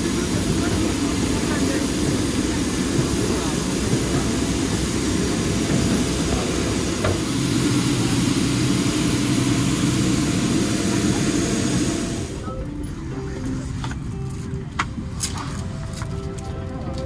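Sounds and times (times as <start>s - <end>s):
jet aircraft rumble: 0.0s - 13.8s.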